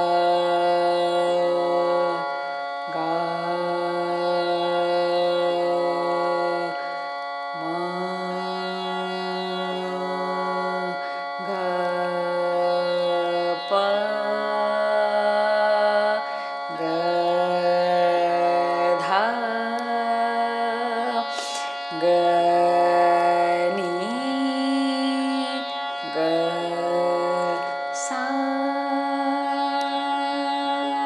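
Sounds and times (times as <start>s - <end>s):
steady drone: 0.0s - 31.0s.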